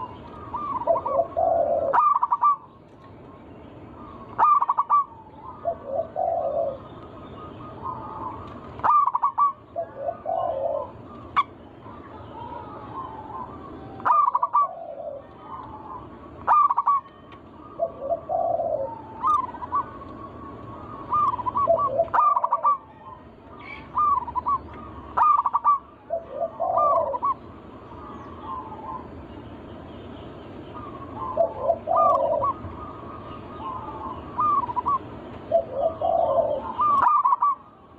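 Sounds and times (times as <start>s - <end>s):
doves cooing: 0.0s - 29.5s, 30.6s - 37.9s.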